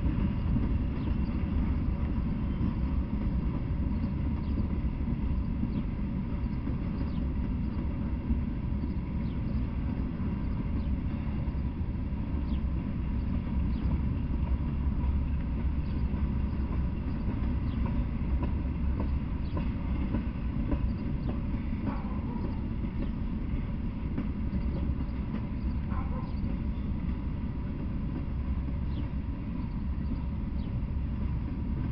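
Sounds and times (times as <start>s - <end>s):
steel wheels rumbling on rails: 0.0s - 31.9s.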